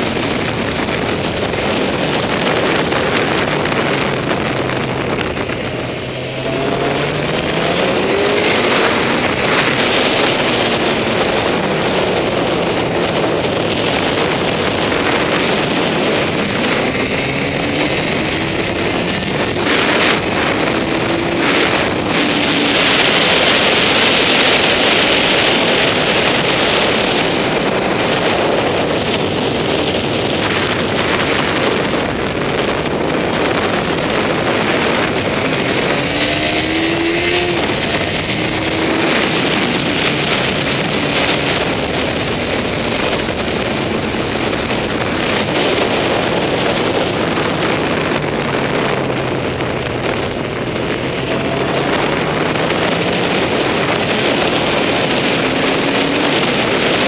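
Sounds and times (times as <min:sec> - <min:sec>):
motorcycle engine running hard: 0:00.0 - 0:57.0
wind rushing on microphone: 0:00.0 - 0:57.0.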